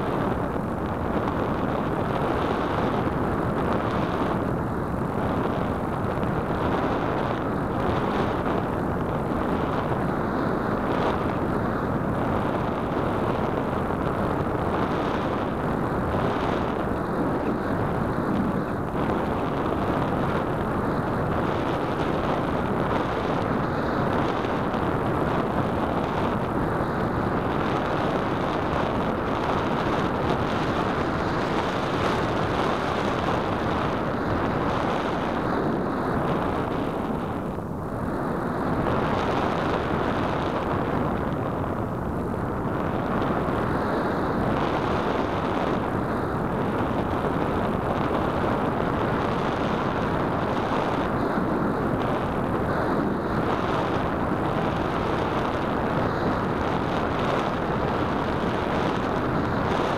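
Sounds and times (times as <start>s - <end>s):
airflow rushing over microphone: 0.0s - 59.9s.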